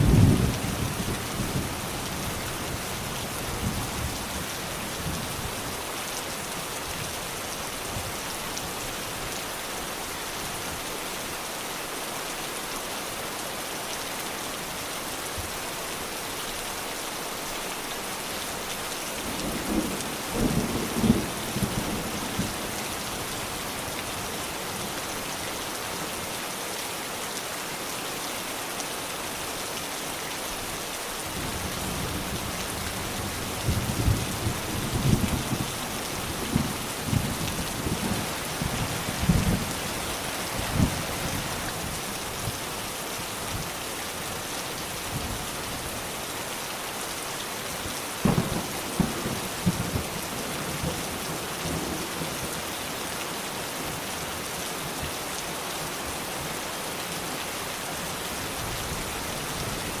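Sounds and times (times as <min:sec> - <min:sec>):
rain hissing on surfaces: 0:00.0 - 1:00.0.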